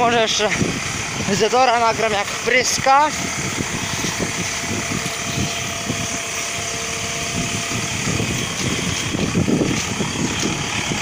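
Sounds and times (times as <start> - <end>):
low rumbling: 0.0 - 11.0
tractor engine running: 0.0 - 11.0.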